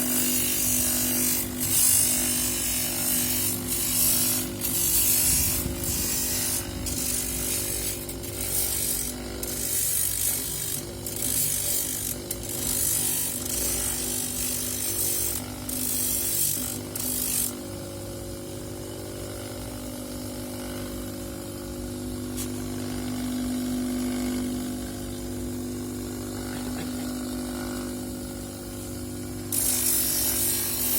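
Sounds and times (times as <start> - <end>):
grinding tool humming: 0.0 - 30.9.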